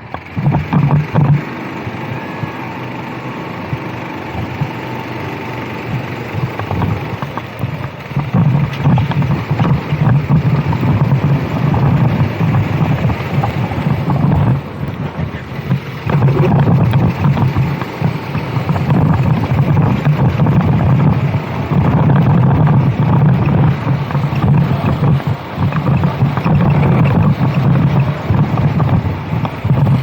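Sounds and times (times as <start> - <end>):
kart engine running: 0.0 - 30.0
wind on microphone: 3.6 - 30.0.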